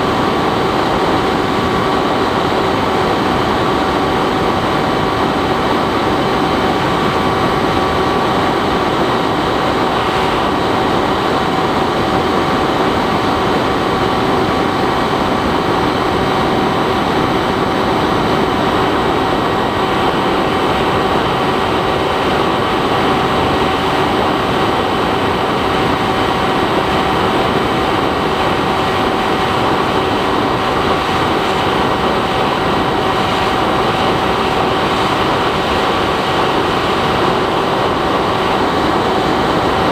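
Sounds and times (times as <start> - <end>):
electric motor and propeller whine: 0.0 - 39.9
wind rush on microphone: 0.0 - 39.9.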